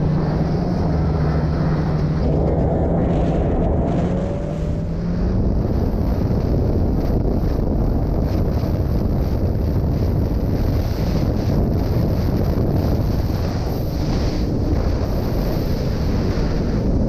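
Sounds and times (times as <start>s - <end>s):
snowmobile engine: 0.0s - 17.0s
wind buffeting microphone: 0.0s - 17.0s.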